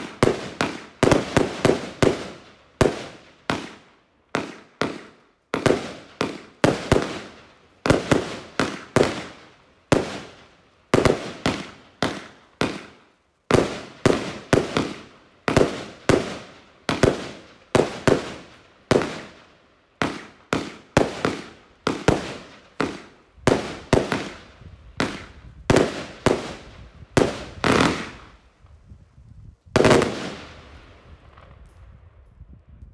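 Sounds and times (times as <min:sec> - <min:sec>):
firework bangs: 0:00.0 - 0:19.4, 0:20.0 - 0:28.4, 0:29.7 - 0:31.6.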